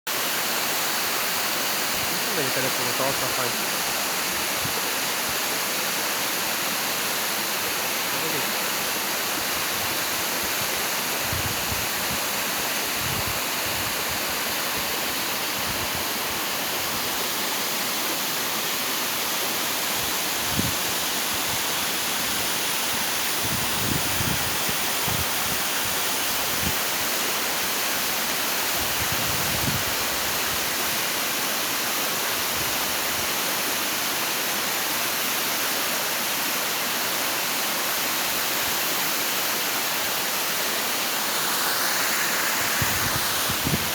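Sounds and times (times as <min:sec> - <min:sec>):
waterfall roaring: 0:00.1 - 0:43.9.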